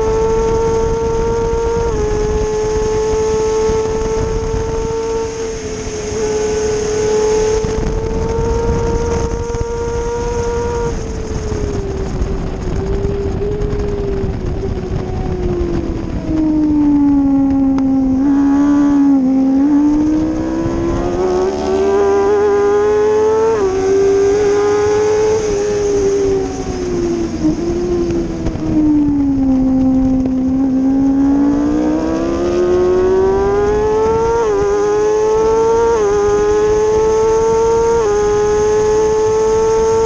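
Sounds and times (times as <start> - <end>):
motorcycle engine at full throttle: 0.0 - 40.0
wind rushing: 0.0 - 40.0.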